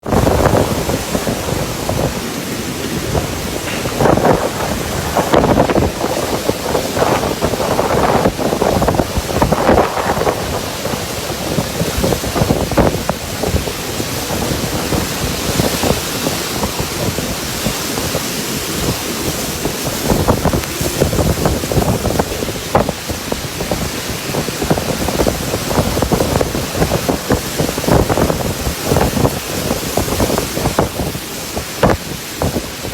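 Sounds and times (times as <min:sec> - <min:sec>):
pouring rain hiss: 0:00.0 - 0:32.9
wind buffeting microphone: 0:00.0 - 0:32.9.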